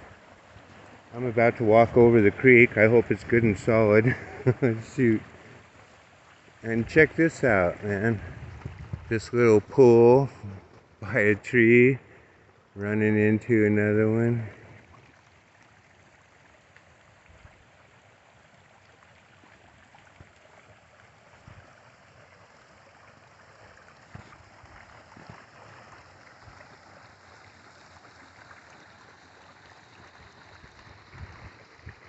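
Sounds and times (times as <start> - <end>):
creek water trickling: 0.0 - 32.0.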